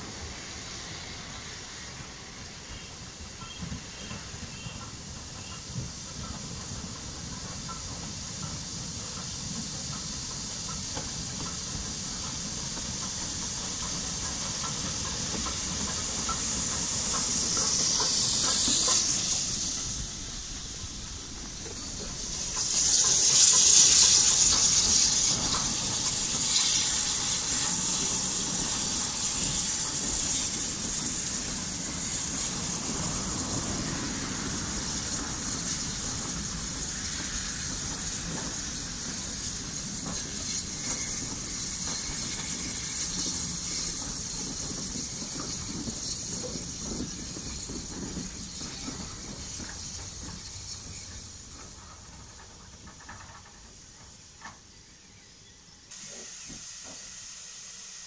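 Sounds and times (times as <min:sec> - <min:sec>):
loud hiss of steam: 0:00.0 - 0:58.0
train coaches rumbling: 0:00.0 - 0:58.0.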